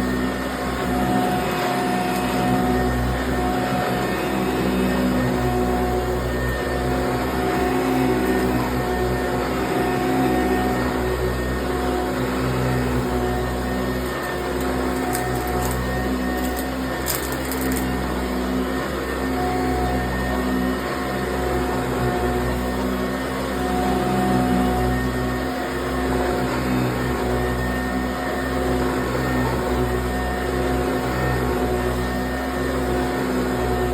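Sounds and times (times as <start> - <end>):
upright vacuum cleaner running: 0.0 - 33.9.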